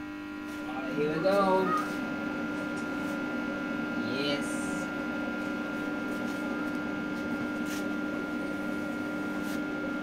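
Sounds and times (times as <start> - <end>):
welder electrical hum: 0.0 - 10.0.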